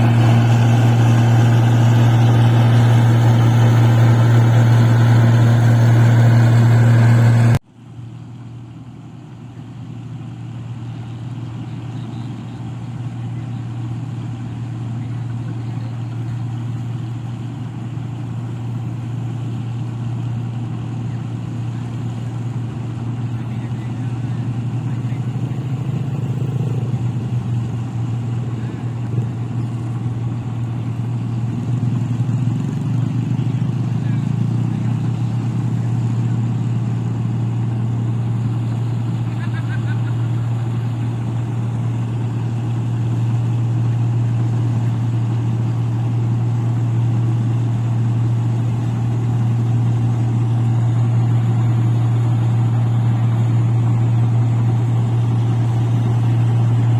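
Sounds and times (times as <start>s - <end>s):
combine harvester engine drone: 0.0s - 56.9s.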